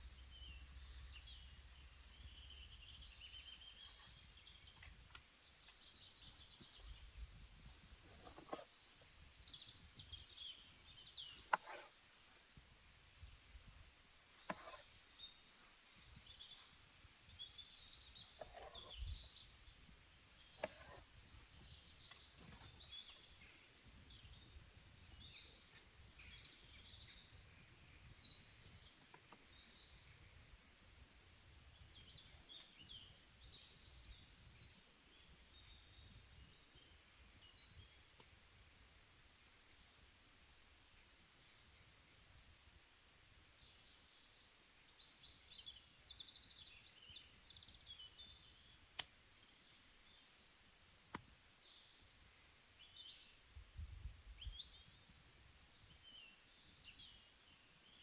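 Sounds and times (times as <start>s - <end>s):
small birds chirping: 0.0s - 30.7s, 31.7s - 58.0s.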